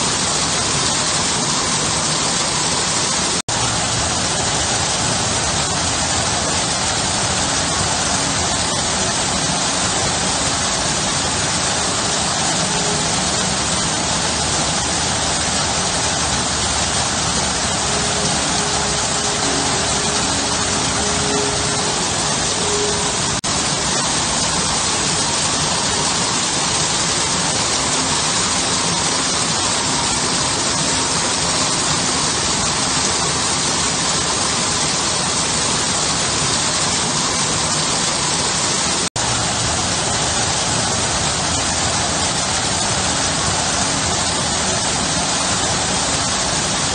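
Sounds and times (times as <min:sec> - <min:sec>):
waterfall splashing into pool: 0:00.0 - 0:46.9.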